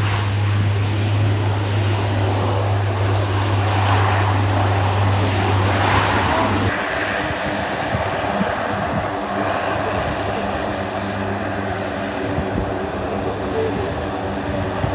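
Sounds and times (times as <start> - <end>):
turboprop engines droning: 0.0 - 14.9.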